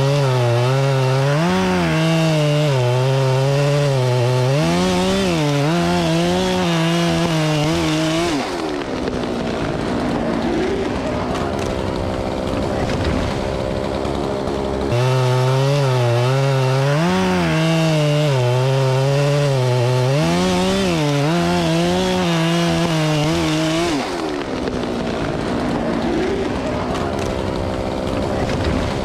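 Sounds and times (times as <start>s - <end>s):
chainsaw cutting: 0.0s - 29.0s
rough steady machine noise: 0.0s - 29.0s.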